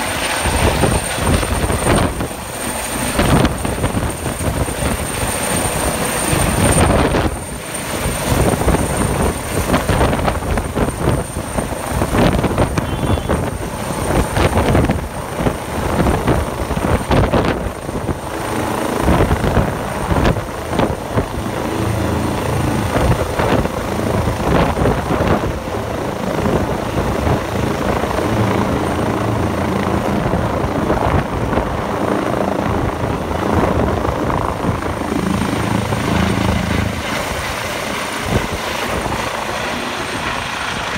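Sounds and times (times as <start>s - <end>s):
helicopter rotor and turbine noise: 0.0s - 40.9s.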